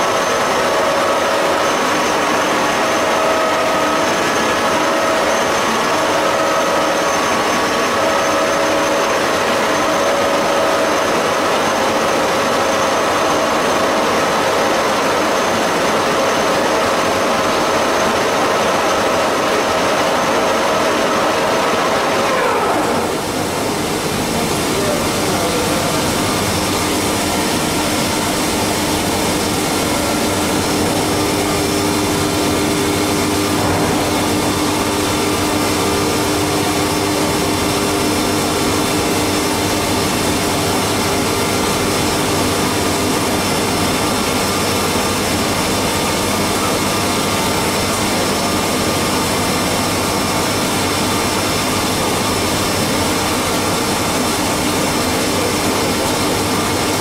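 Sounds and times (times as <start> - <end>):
machining noise: 0.0 - 57.0
mill whine: 0.0 - 57.0.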